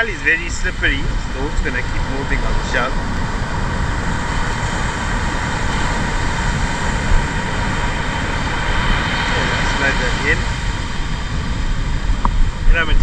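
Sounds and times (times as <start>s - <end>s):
surf breaking: 0.0s - 13.0s
wind rumbling on microphone: 0.0s - 13.0s.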